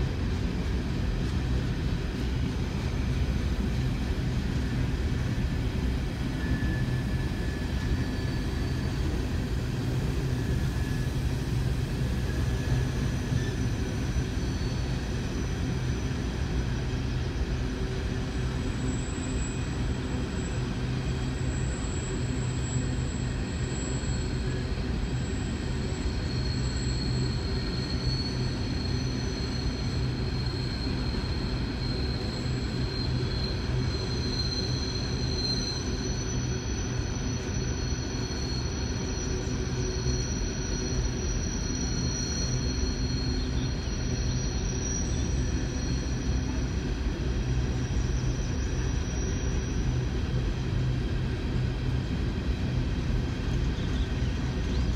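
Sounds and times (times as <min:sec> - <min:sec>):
steel wheels rumbling on rail: 0:00.0 - 0:54.9
faint high-pitched squeals: 0:01.3 - 0:54.9.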